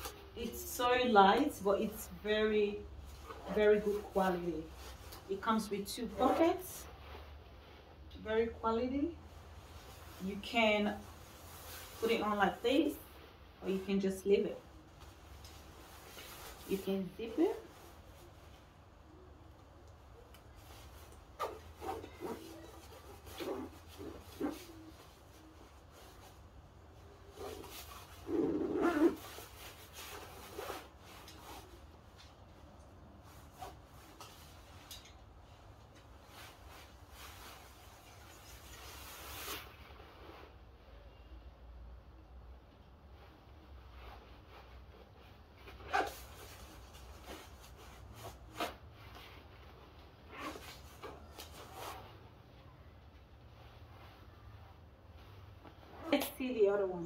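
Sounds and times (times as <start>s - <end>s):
jacket fabric rustling: 0.0s - 41.3s, 42.2s - 57.0s.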